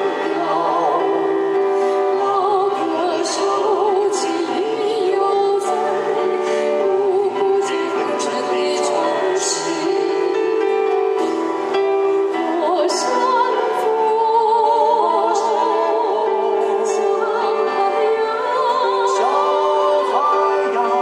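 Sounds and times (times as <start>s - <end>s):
man and woman singing: 0.0s - 10.7s, 12.7s - 21.0s.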